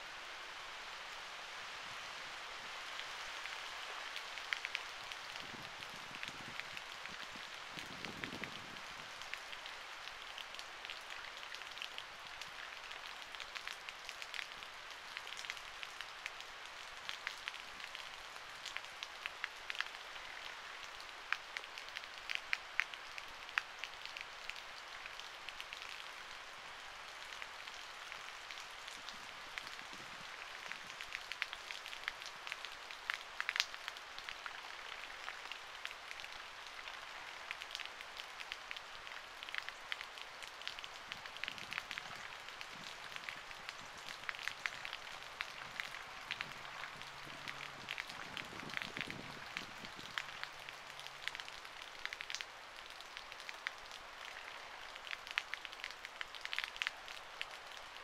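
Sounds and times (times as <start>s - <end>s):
rain hiss: 0.0s - 58.0s
raindrops ticking near microphone: 2.7s - 58.0s.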